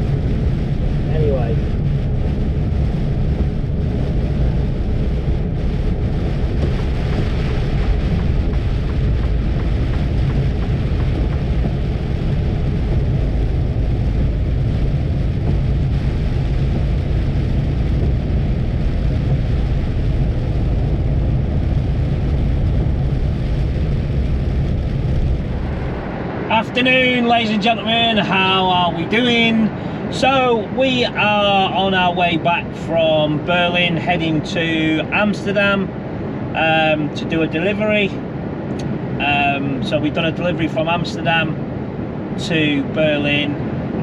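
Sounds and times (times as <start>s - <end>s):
lorry engine and road rumble: 0.0s - 44.0s.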